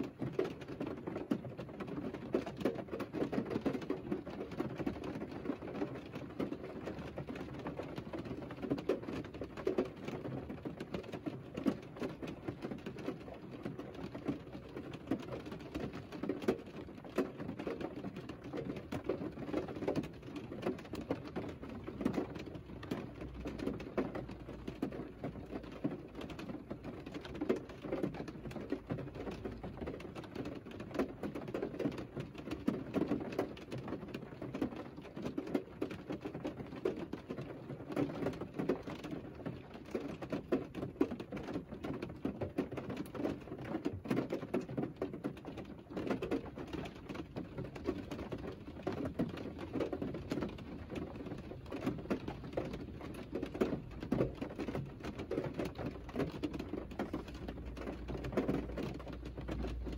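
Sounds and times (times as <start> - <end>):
rain patter on car: 0.0 - 59.9.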